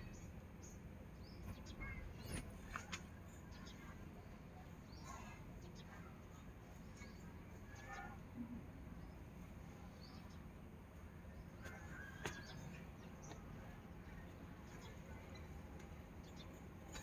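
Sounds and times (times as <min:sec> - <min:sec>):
faint bird chirps: 0:00.0 - 0:10.5, 0:11.2 - 0:17.0.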